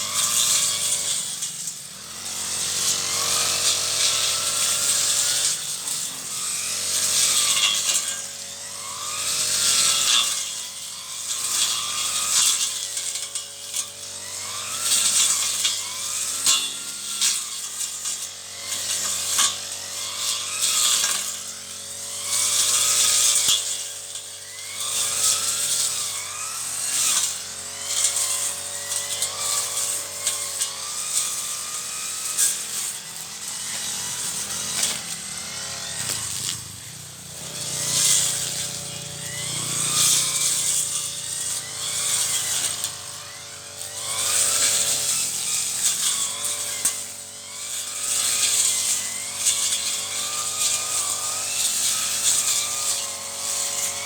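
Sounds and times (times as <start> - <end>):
brush cutter cutting weeds: 0.0 - 54.0.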